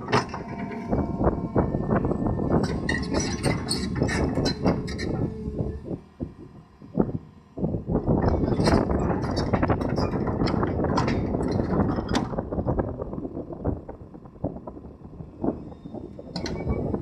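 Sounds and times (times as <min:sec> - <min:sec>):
backhoe loader engine running: 0:00.0 - 0:13.9.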